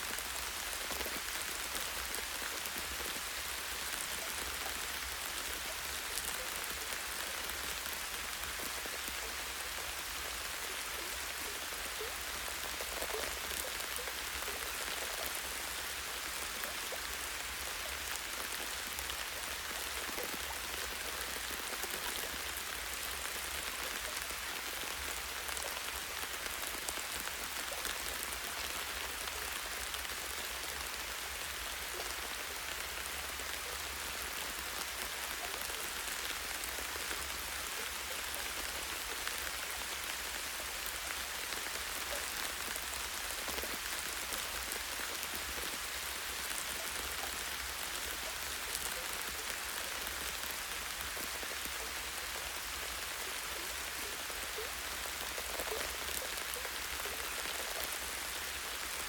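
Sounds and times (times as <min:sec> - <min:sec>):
light rain on leaves: 0:00.0 - 0:59.0.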